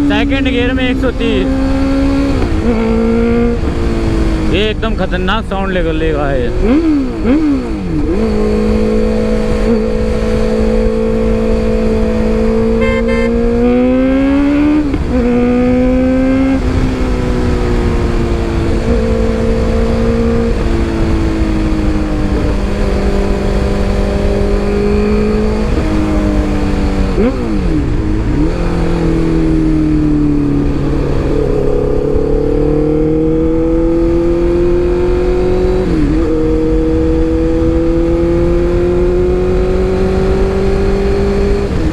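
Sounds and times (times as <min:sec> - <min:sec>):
motorcycle engine at speed: 0:00.0 - 0:41.9.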